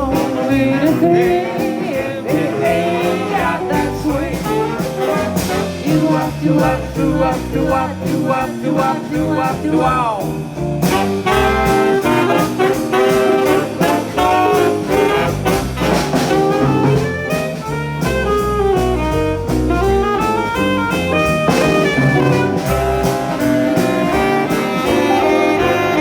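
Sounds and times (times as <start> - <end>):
jazz band playing swing: 0.0 - 26.0.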